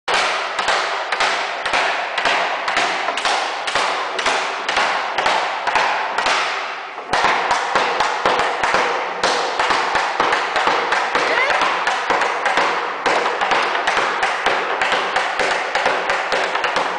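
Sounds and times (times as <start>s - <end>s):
hammer striking metal hoops: 0.1s - 16.9s.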